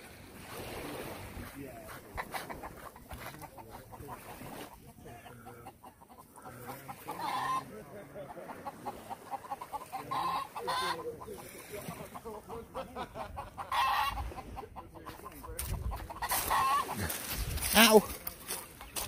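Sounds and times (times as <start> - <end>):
chickens clucking: 1.4 - 19.0
chicken calls: 2.0 - 19.0.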